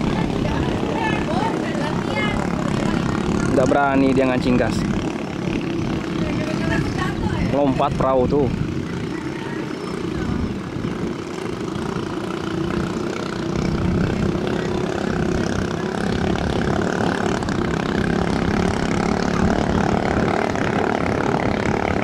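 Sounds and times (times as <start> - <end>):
motorcycle engine high drone: 0.0 - 22.0.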